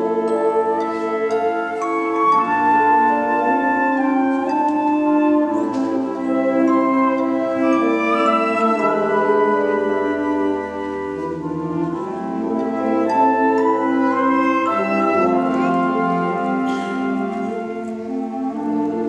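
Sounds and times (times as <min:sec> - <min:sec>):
wind band playing chords: 0:00.0 - 0:19.0.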